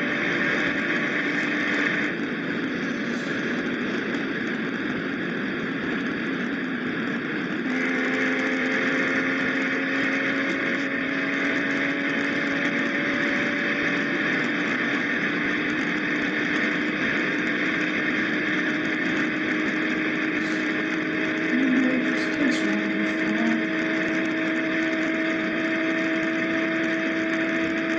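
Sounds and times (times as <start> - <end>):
car engine accelerating: 0.0 - 27.9
road and wind noise: 0.0 - 27.9.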